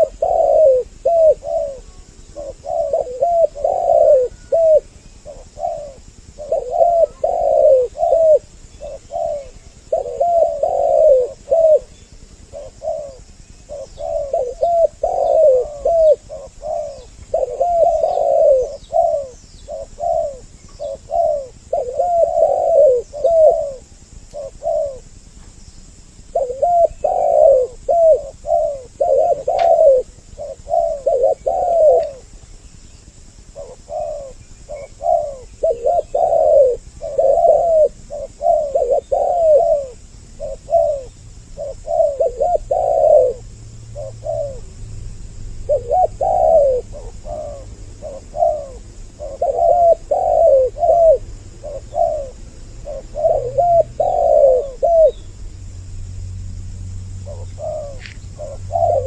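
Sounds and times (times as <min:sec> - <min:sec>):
doves cooing: 0:00.0 - 0:55.8, 0:57.0 - 0:59.0.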